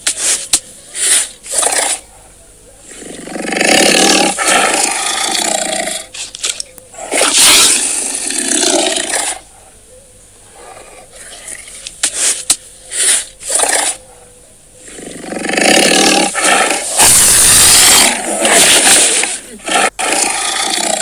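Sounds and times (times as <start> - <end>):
tiger growling: 0.0 - 21.0
tiger roaring: 0.1 - 21.0.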